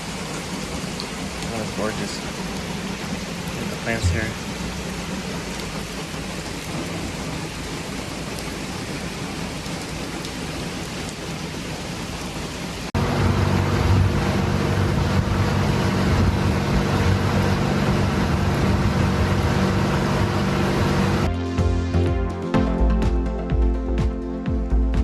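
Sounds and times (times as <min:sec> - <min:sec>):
rain-like hiss: 0:00.0 - 0:21.3
water and wind noise: 0:00.0 - 0:21.3
boat motor running: 0:00.4 - 0:21.3.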